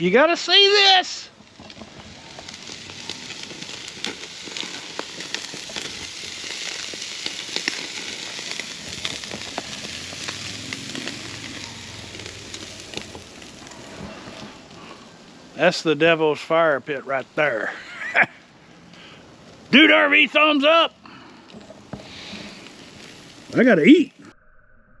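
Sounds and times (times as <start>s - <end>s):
steaks sizzling on a grill: 0.0s - 24.1s
charcoal popping and crackling: 0.0s - 24.2s.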